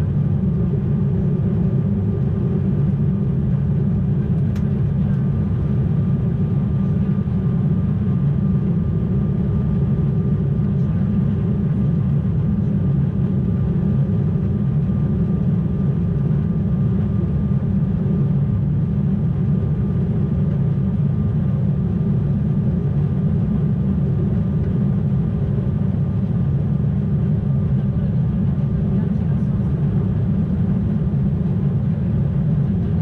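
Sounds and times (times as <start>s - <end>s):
airliner cabin engine drone: 0.0s - 33.0s
faint high engine whine: 0.0s - 33.0s.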